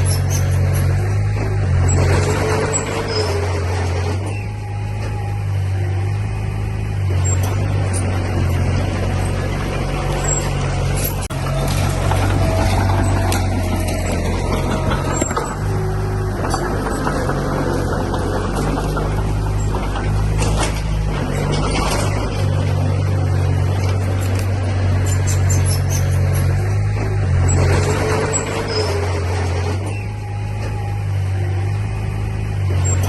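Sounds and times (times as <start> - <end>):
metallic squeaks: 0.0 - 5.6, 7.1 - 31.6, 32.7 - 33.0
diesel engine running: 0.0 - 33.0.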